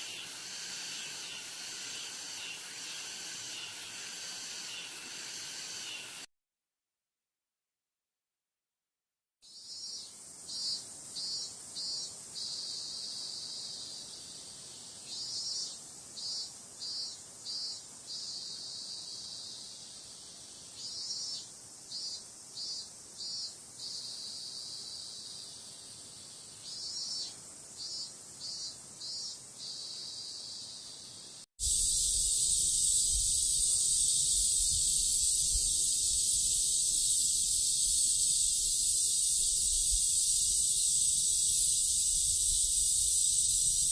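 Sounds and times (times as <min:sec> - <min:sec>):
cicadas high drone: 0:00.0 - 0:06.3, 0:09.5 - 0:43.9
cicadas pulsed song: 0:00.0 - 0:06.3, 0:09.4 - 0:43.9
cicadas shrill buzz: 0:00.0 - 0:06.3, 0:09.4 - 0:43.9.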